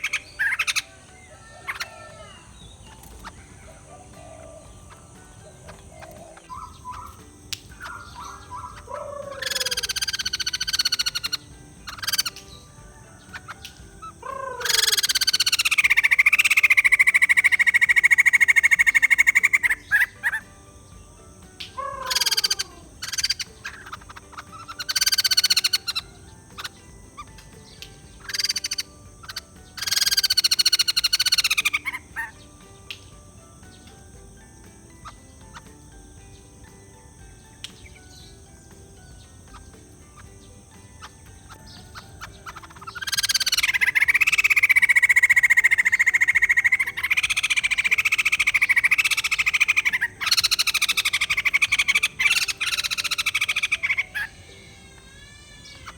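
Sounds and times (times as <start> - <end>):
laughingthrush calling: 0.0 - 55.9.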